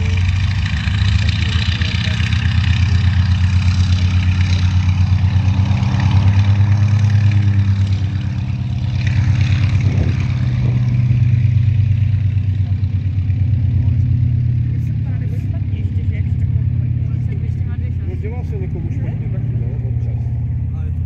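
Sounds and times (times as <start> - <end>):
radial aircraft engine running: 0.0 - 21.0.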